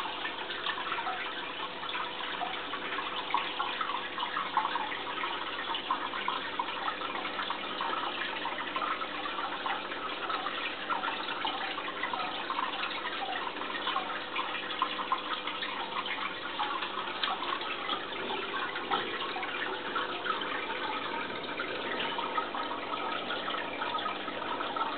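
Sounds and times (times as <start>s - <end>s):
faint steady hum: 0.0s - 24.9s
water trickling and bubbling: 0.0s - 24.9s.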